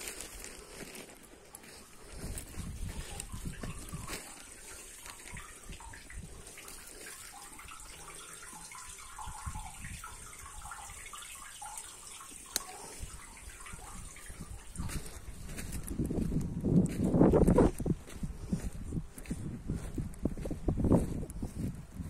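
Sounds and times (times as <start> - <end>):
water trickling in concrete chamber: 0.0 - 19.3.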